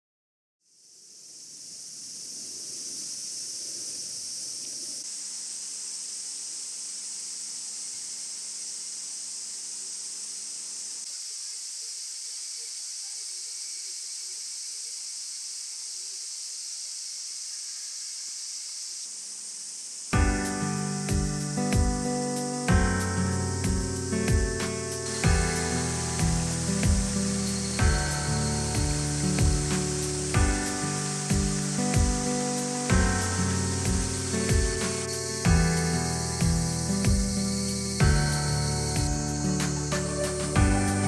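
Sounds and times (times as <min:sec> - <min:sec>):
high-pitched insect chorus: 0:00.6 - 0:41.0.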